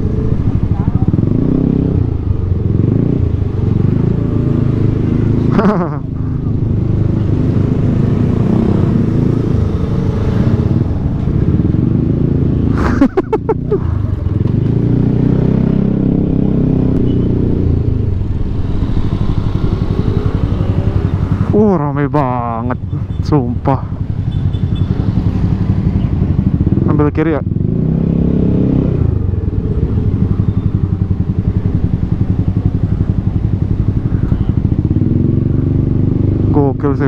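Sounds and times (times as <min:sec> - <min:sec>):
scooter engine rumbling: 0:00.0 - 0:27.0, 0:27.6 - 0:36.1.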